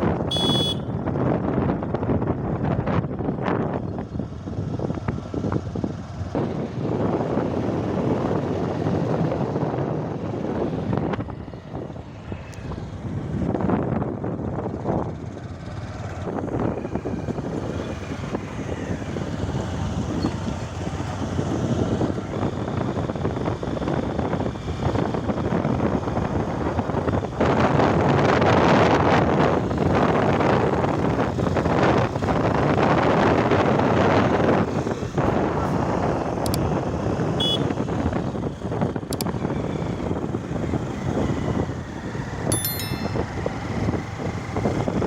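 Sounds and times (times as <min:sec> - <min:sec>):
motorcycle running: 0:00.0 - 0:45.0
wind noise on microphone: 0:00.0 - 0:45.0.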